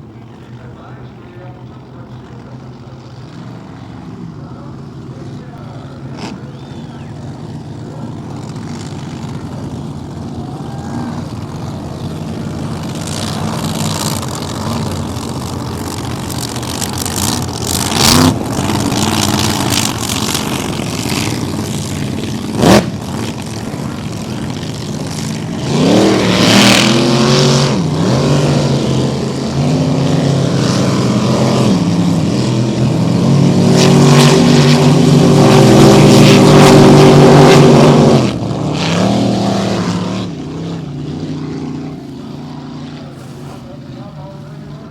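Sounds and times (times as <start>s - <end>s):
racing boat engines revving: 0.0s - 44.9s.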